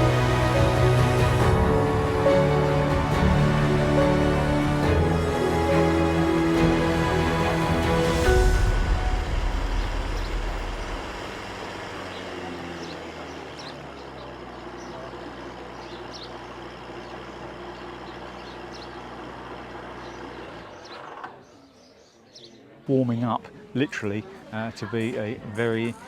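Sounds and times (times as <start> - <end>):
low engine hum: 0.0 - 21.2.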